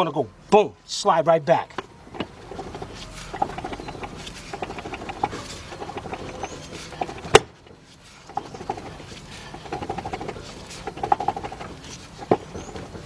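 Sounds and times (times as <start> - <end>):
metal ticks and scraping: 1.6 - 13.0
short squeaks: 1.7 - 13.0.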